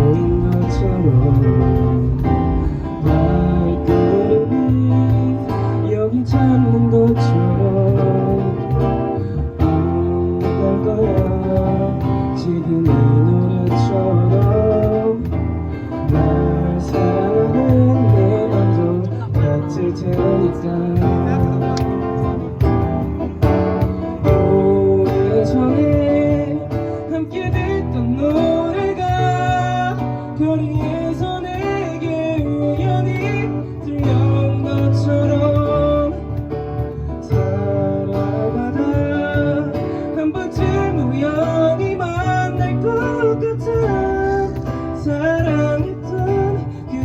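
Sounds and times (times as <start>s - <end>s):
guitar melody: 0.0s - 47.0s
live band playing a ballad: 0.0s - 47.0s.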